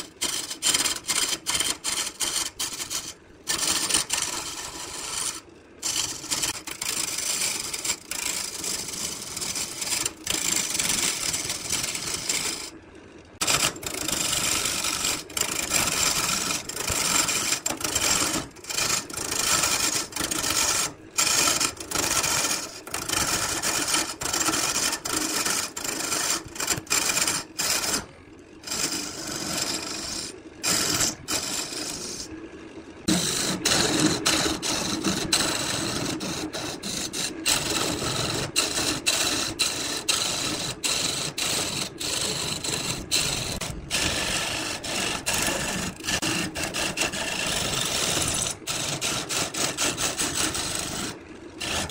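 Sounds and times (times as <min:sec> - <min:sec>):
lathe chisel rasping wood: 0:00.0 - 0:12.7, 0:13.4 - 0:32.3, 0:33.1 - 0:51.9.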